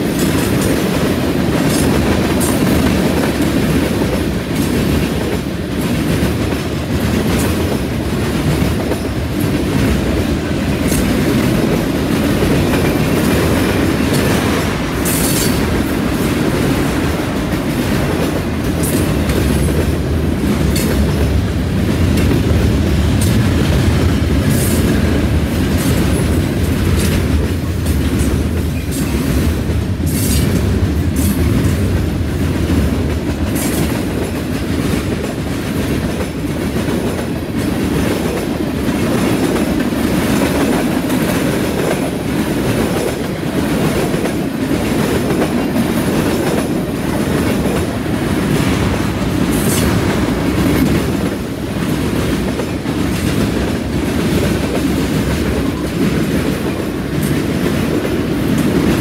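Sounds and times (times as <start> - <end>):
train wheels rumbling on rails: 0.0 - 59.0
wheels clickety-clack: 0.0 - 59.0.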